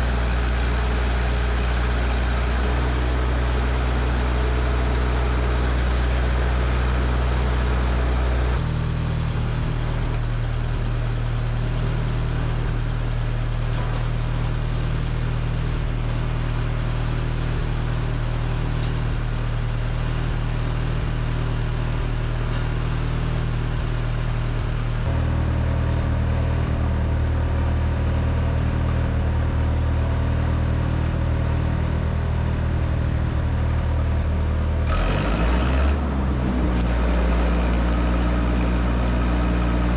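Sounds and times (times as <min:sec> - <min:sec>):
welder engine running: 0:00.0 - 0:39.9.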